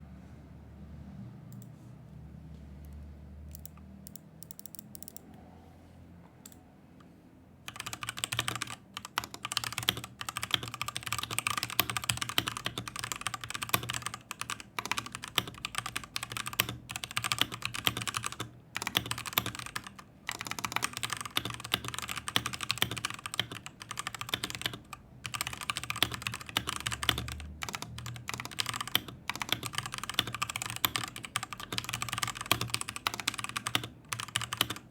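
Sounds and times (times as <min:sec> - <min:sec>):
mechanical keyboard typing: 0:03.5 - 0:05.2, 0:07.7 - 0:34.9.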